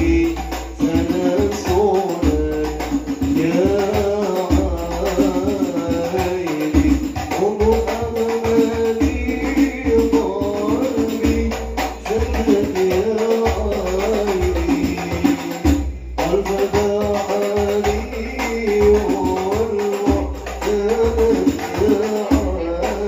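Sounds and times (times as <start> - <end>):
frame drums and jingles: 0.0 - 23.0
man singing: 0.0 - 23.0.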